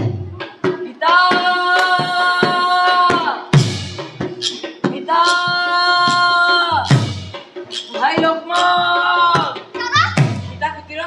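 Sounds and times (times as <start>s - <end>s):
drum beats: 0.0s - 11.0s.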